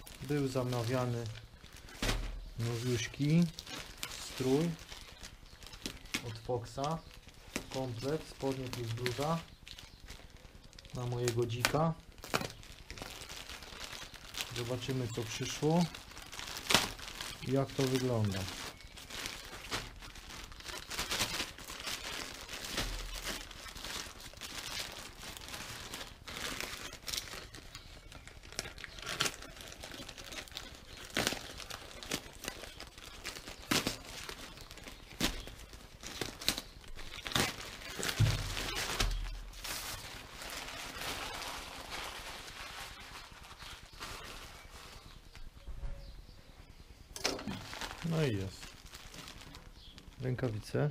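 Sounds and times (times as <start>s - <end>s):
plastic bag crinkling and tearing: 0.0s - 45.5s, 47.2s - 50.9s.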